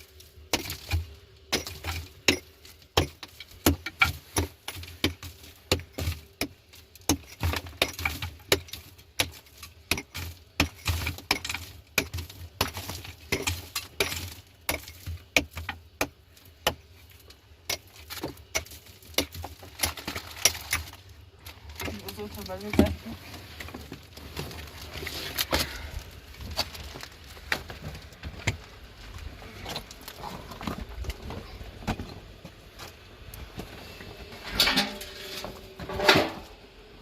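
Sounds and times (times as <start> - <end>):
clinks and knocks of hard objects: 0.6 - 28.7, 34.2 - 36.6.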